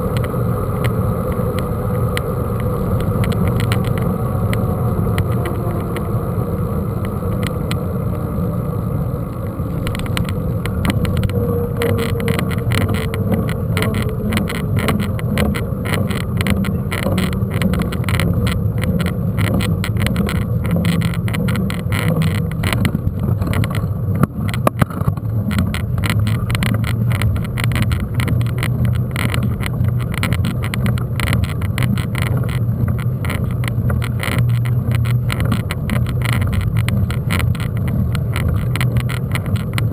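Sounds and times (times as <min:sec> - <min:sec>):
bike rattling and clicking: 0:00.0 - 0:39.9
mountain bike rumbling over rough ground: 0:00.0 - 0:39.9.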